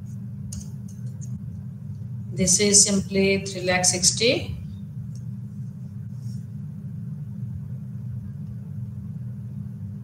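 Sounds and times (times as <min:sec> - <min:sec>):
low equipment hum: 0:00.0 - 0:10.0.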